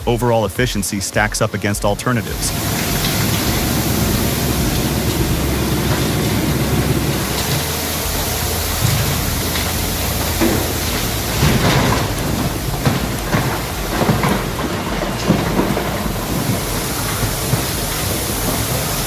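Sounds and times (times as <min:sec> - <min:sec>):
scattered knocks: 0:00.0 - 0:19.0
industrial shredder grinding: 0:02.1 - 0:19.0.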